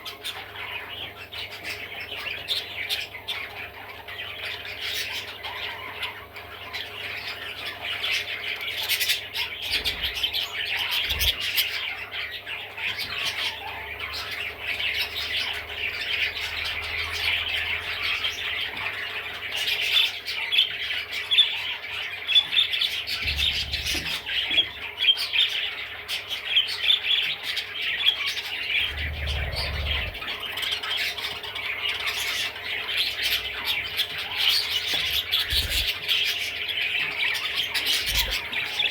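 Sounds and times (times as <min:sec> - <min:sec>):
budgerigar chirping and squawking: 0:00.0 - 0:38.9.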